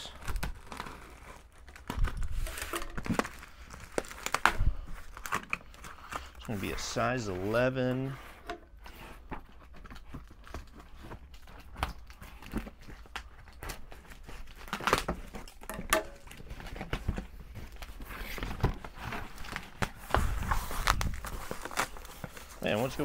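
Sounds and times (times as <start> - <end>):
cardboard box crinkling and tearing: 0.0 - 23.0.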